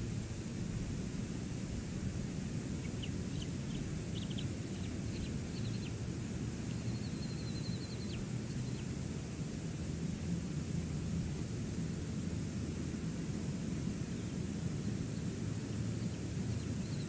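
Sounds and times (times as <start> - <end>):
low rumble of wind and sea: 0.0 - 17.0.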